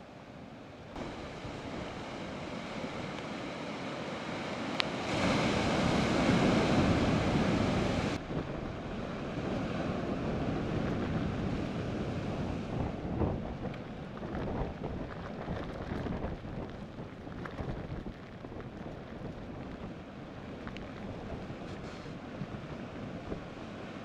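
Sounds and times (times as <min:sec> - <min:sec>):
ocean surf breaking on rocks: 0:00.9 - 0:24.0
wind buffeting microphone: 0:01.0 - 0:23.8.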